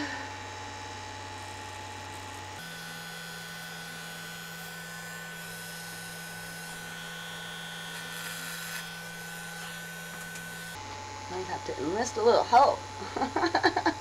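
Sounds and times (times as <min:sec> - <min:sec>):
electric hair clippers buzzing: 0:00.0 - 0:11.2, 0:12.9 - 0:14.0.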